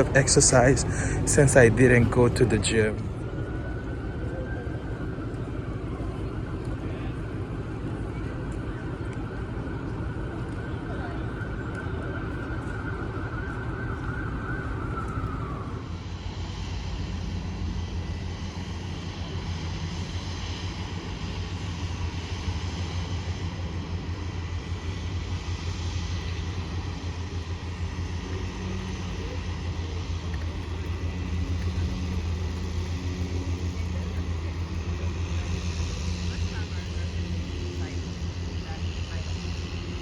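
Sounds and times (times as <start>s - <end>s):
low rumble of road traffic: 0.0s - 40.0s.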